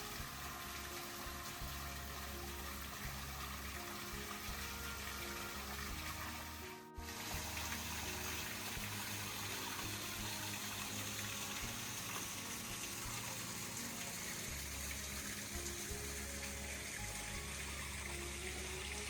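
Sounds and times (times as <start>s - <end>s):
running water rushing: 0.0s - 19.0s
soft background music: 0.0s - 19.0s.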